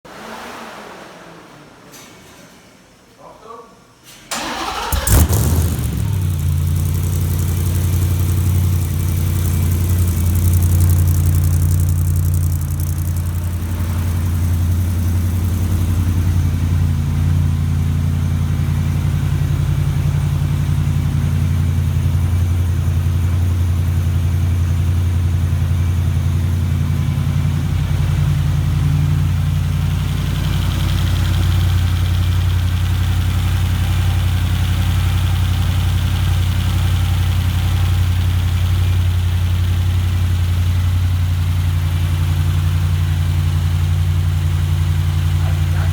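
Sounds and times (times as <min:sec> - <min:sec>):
car engine starting and idling: 0:04.2 - 0:45.9.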